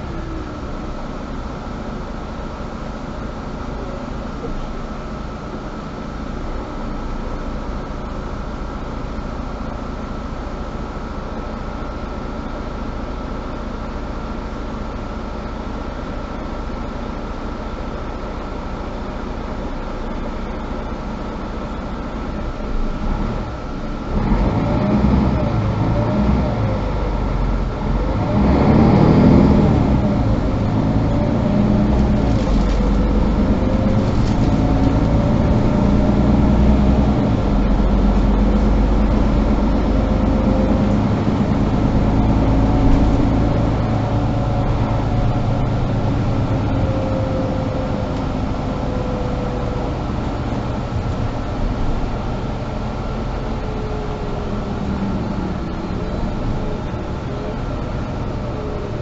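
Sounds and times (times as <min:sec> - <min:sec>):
bus engine running: 0:00.0 - 0:59.0
drivetrain whine: 0:00.0 - 0:59.0.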